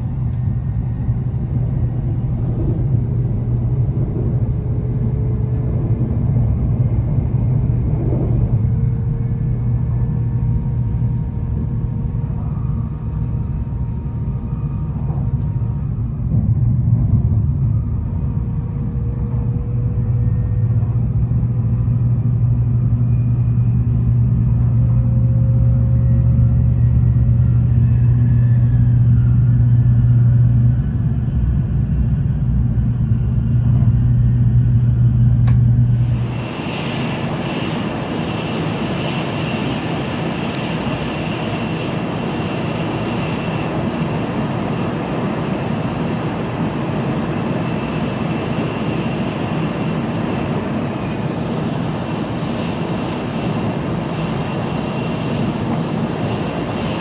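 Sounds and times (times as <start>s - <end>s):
faint whining tones: 0.0s - 57.0s
train interior rumble: 0.0s - 57.0s.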